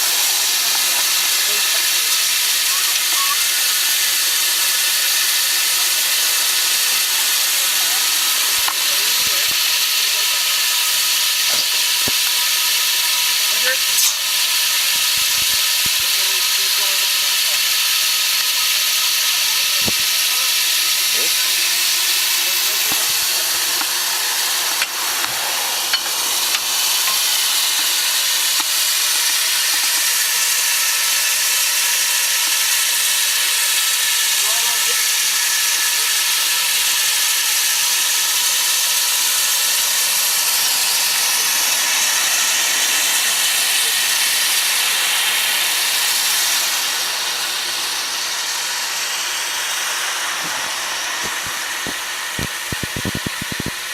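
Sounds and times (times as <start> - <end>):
steam locomotive hissing steam: 0.0 - 53.9.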